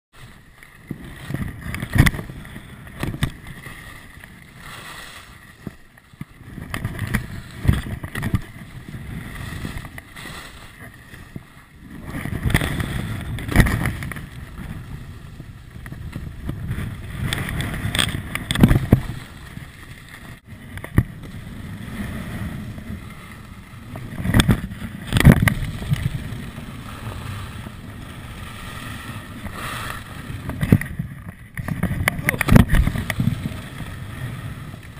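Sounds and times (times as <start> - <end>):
skis scraping over snow: 0.2 - 34.9
wind on microphone: 0.8 - 34.9.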